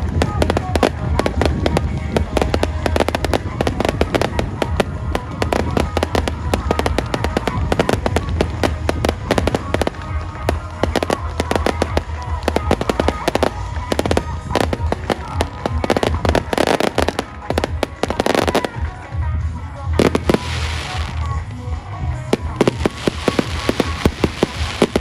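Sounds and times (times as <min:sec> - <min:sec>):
fireworks bursting and crackling: 0:00.0 - 0:25.0
music playing: 0:00.0 - 0:25.0.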